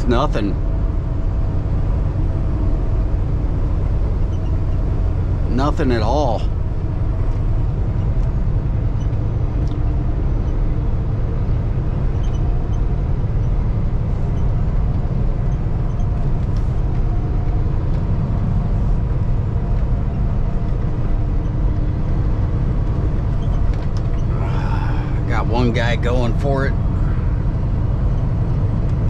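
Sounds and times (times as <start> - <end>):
diesel engine running: 0.0 - 29.0
road noise rumble: 0.0 - 29.0.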